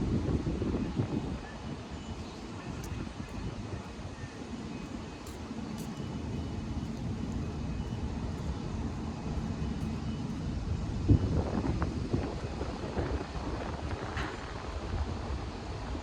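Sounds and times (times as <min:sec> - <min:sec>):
distant traffic rumble: 0:00.0 - 0:14.8.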